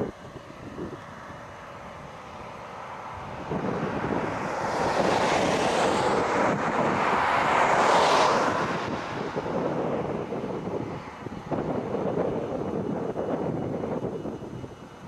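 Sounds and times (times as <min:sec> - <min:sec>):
vehicle tyre and road noise: 0:00.0 - 0:15.0.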